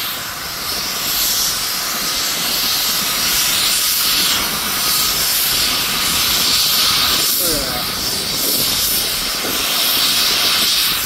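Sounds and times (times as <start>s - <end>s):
vapour hissing from pressurized leak: 0.0s - 11.0s.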